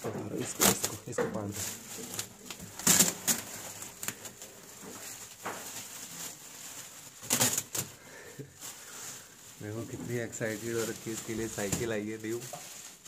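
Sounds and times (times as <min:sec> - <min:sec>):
foil and cardboard crinkling: 0:00.0 - 0:13.0.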